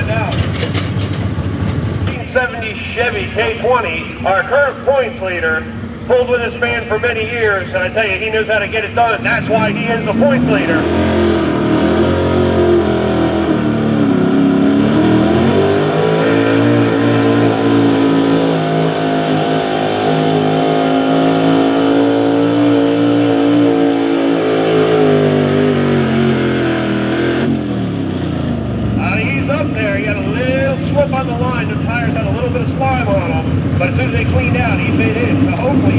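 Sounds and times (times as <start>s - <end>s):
truck engine revving hard: 0.0s - 35.9s.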